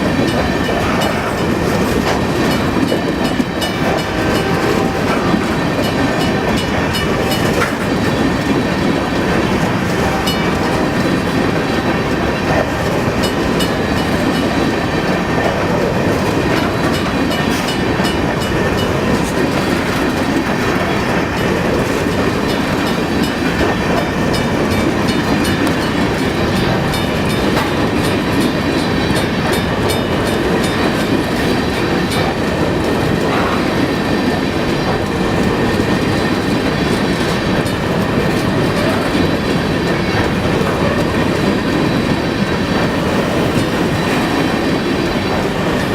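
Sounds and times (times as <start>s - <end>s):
train wheels rumbling on rail: 0.0s - 45.9s
wheels clicking on rail joints: 0.0s - 45.9s.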